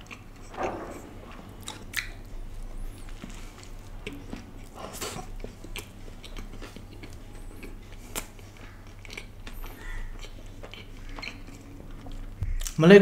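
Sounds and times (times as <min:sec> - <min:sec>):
person chewing a burger: 0:00.0 - 0:00.6, 0:01.6 - 0:12.8.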